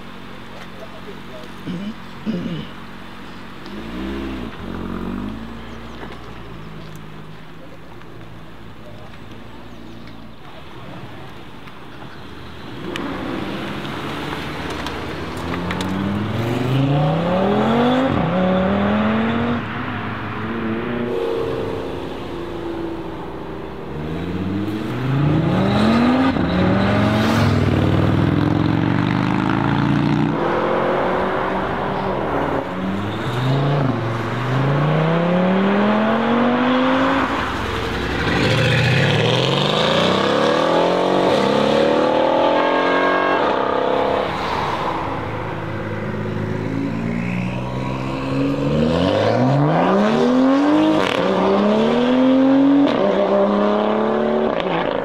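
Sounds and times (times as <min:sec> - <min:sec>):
sports cars accelerating: 0:00.3 - 0:08.6, 0:12.0 - 0:55.0.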